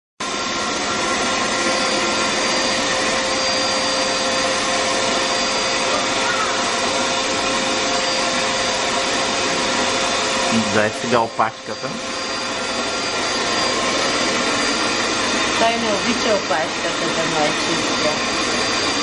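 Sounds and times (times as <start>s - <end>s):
vacuum cleaner running: 0.2s - 19.0s.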